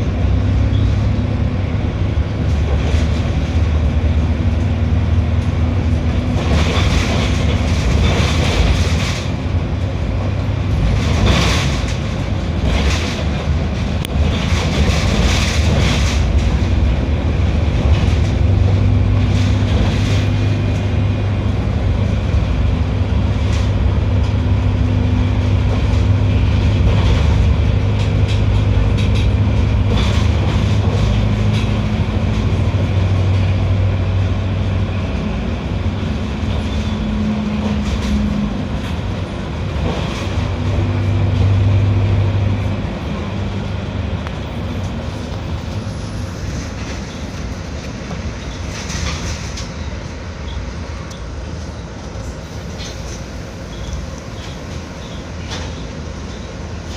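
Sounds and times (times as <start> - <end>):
bus engine droning: 0.0 - 56.9.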